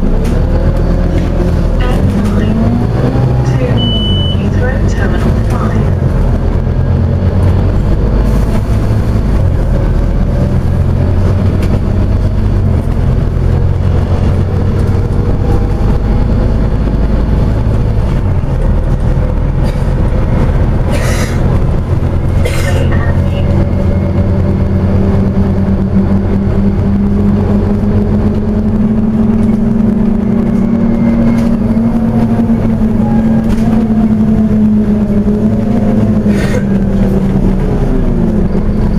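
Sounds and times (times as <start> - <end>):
bus diesel engine rumble: 0.0 - 38.9
drivetrain whine: 0.0 - 38.9.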